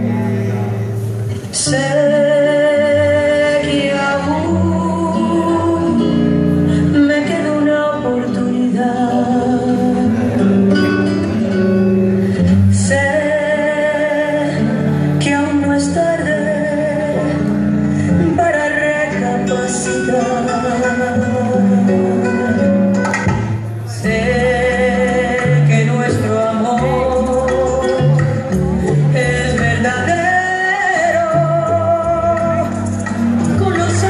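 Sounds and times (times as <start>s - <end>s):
person singing with vibrato: 0.0s - 34.0s.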